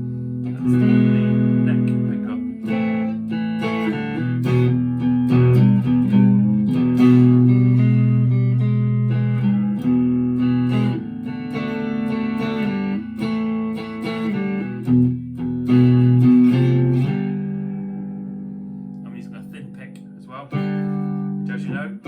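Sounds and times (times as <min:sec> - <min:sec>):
clean electric guitar picking: 0:00.0 - 0:22.0.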